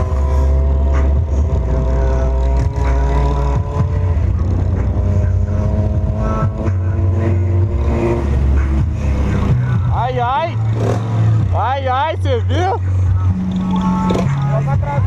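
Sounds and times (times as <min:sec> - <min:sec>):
bass-heavy music from car speakers: 0:00.0 - 0:15.0
vehicle engine running: 0:00.0 - 0:15.0.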